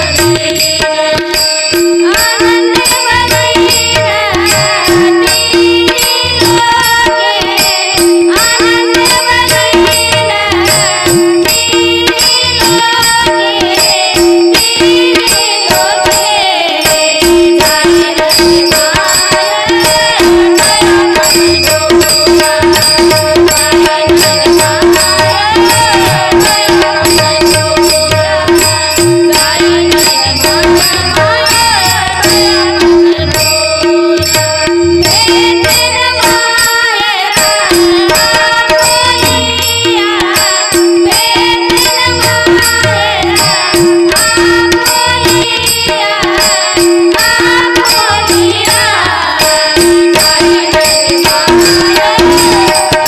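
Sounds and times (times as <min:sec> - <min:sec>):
steady held drone tones: 0:00.0 - 0:53.0
tabla rhythm: 0:00.0 - 0:53.0.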